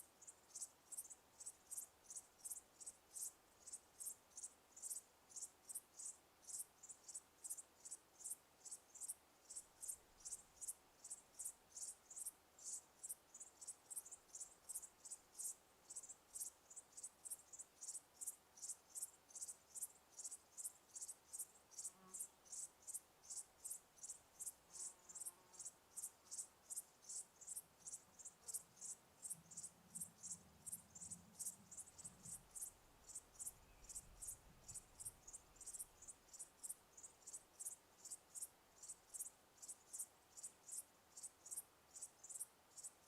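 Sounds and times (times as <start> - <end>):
crickets chirping: 0.1 - 43.0.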